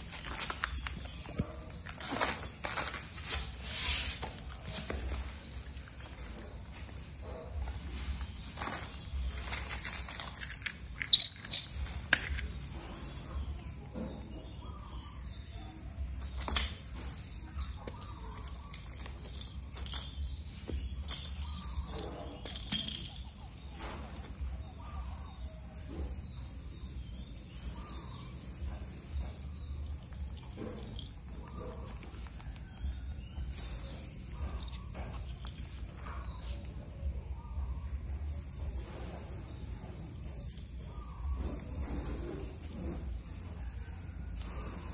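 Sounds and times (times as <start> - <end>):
high insect trill: 0.0 - 44.9.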